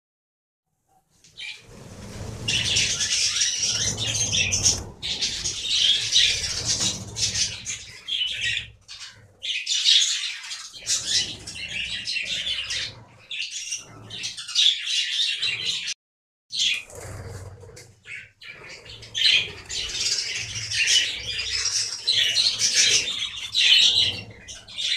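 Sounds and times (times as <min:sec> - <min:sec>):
wings flapping: 0:01.3 - 0:09.4, 0:10.5 - 0:14.5, 0:16.6 - 0:24.9
budgerigars chattering and chirping: 0:02.4 - 0:15.9, 0:18.0 - 0:24.9.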